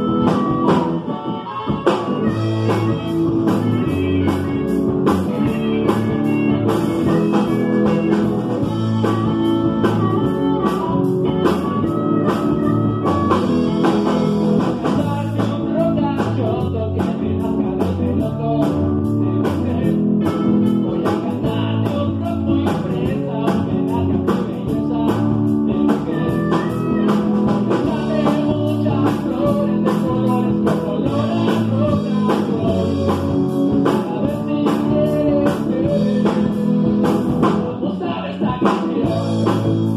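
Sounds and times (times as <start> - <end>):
drum kit: 0.0 - 39.9
electric bass: 0.0 - 39.9
electric guitar: 0.0 - 39.9
person singing: 0.0 - 39.9.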